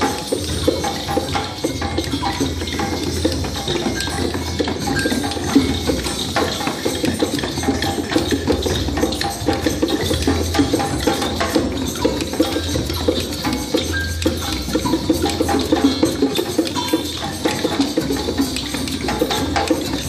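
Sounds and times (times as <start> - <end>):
hand drums: 0.0 - 20.0
shakers: 0.0 - 20.0
wooden clappers and sticks: 0.0 - 20.0.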